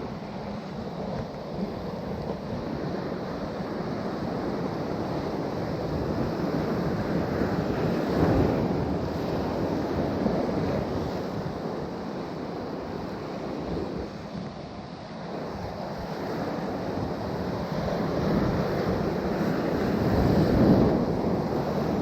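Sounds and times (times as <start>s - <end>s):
wind buffeting microphone: 0.0s - 14.6s, 15.2s - 22.0s
sea surf washing ashore: 0.0s - 22.0s.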